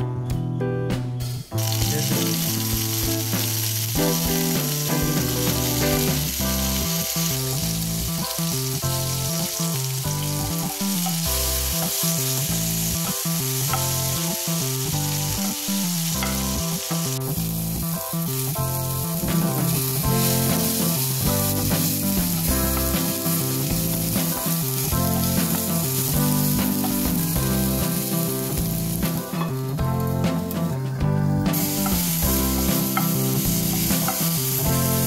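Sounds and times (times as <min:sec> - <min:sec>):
background music: 0:00.0 - 0:35.0
hot oil sizzling: 0:01.5 - 0:30.8, 0:31.4 - 0:35.0.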